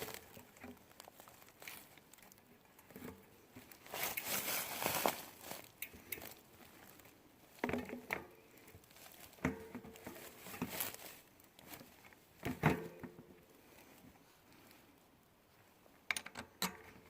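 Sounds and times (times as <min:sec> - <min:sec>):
rustling of gear: 0:00.0 - 0:15.8.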